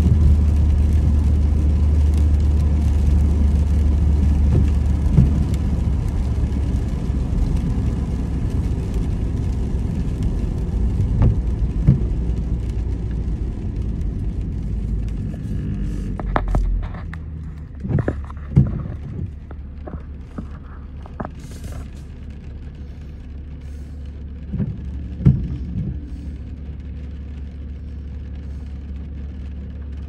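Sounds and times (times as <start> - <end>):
car road noise on wet road: 0.0 - 30.0.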